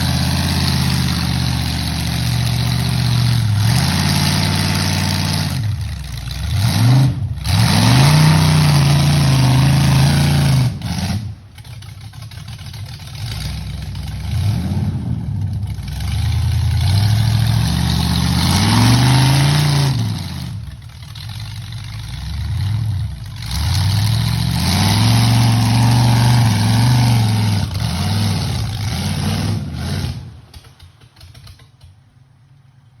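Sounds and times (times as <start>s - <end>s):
engine revving hard: 0.0s - 11.5s, 13.2s - 20.8s, 22.0s - 30.6s.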